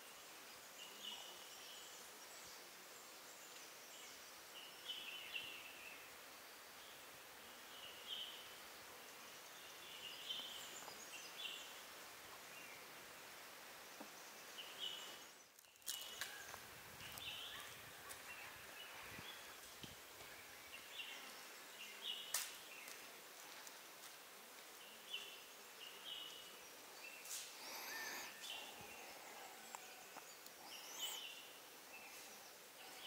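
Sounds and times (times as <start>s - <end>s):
faint forest ambience: 0.0s - 33.0s.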